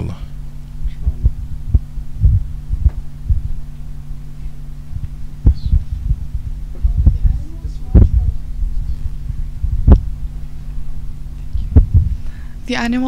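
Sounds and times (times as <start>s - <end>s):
microphone handling thumps: 0.0s - 12.5s
electrical hum: 0.0s - 13.0s.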